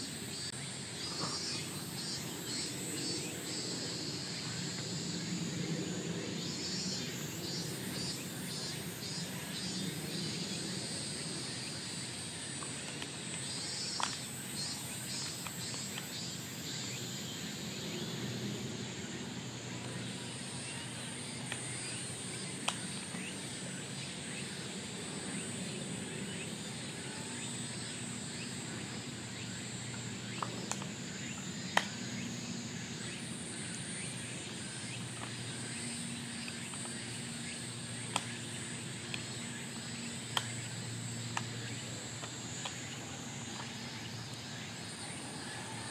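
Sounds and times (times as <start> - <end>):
high-pitched insect drone: 0.0 - 45.9
pulsing insect call: 0.0 - 45.9.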